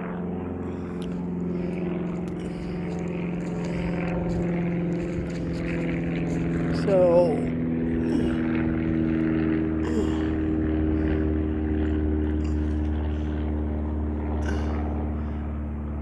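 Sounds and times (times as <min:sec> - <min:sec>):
propeller airplane drone: 0:00.0 - 0:16.0.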